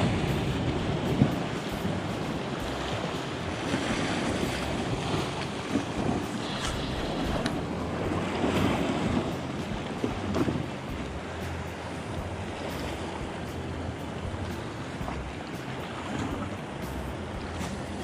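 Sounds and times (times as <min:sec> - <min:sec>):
water lapping against boat hull: 0:00.0 - 0:18.0
wind buffeting microphone: 0:00.0 - 0:18.0.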